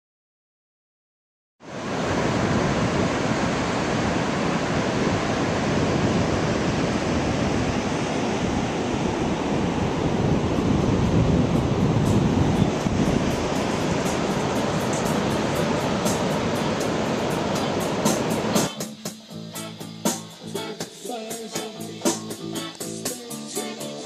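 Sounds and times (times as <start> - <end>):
wind: 1.6 - 21.0
ocean surf: 1.6 - 24.0.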